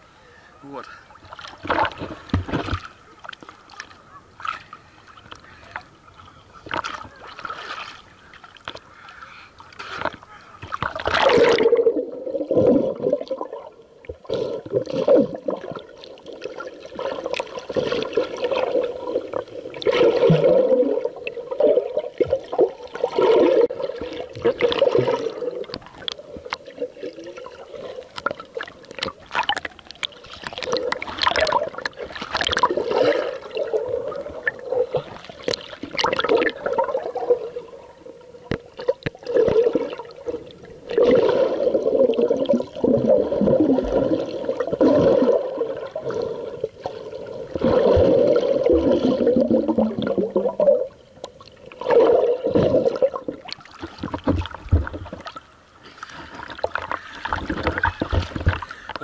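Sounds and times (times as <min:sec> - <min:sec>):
water sloshing and gurgling: 0:00.9 - 0:59.0.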